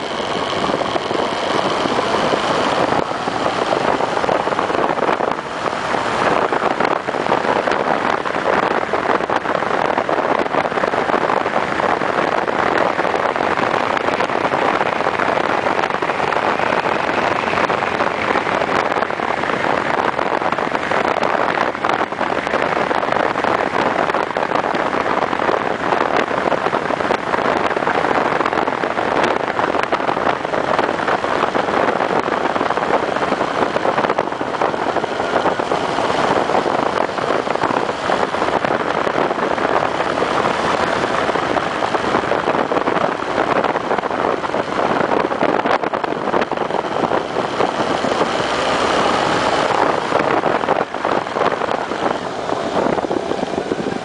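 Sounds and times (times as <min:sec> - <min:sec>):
motorcycle engine and road noise: 0:00.0 - 0:54.0
wind rushing over microphone: 0:00.0 - 0:54.0.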